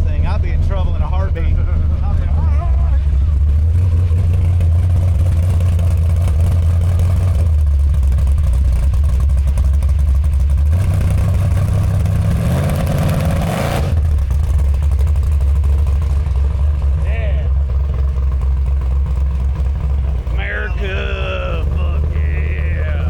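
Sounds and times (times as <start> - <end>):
pickup engine idling and revving: 0.0 - 23.0.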